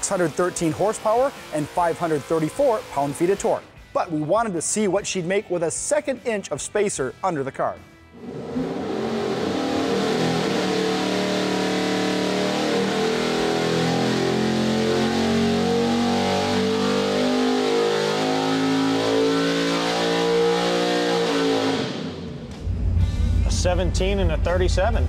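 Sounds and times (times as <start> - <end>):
engine running at full throttle: 0.0 - 3.8, 8.2 - 24.8.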